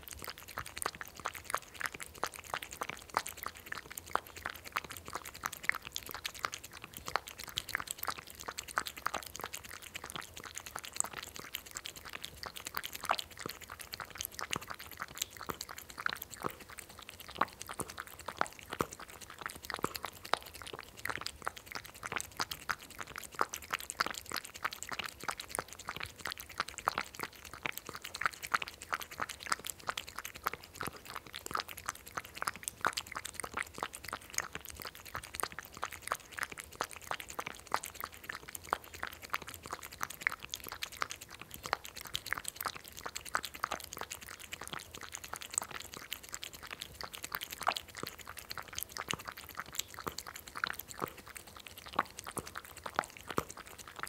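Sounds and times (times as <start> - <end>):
cat lapping milk: 0.0 - 54.0.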